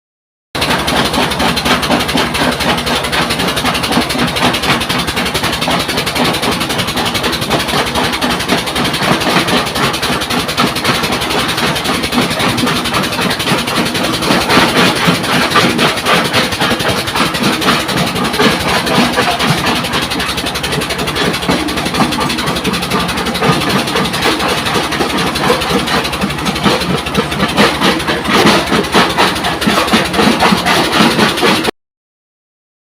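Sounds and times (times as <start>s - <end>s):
stone crusher engine drone: 0.6s - 31.7s.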